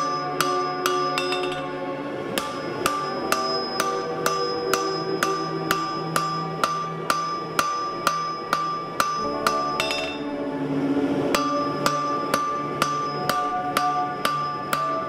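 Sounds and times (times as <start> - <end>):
hammer striking steel on anvil: 0.0 - 10.4, 11.3 - 15.0.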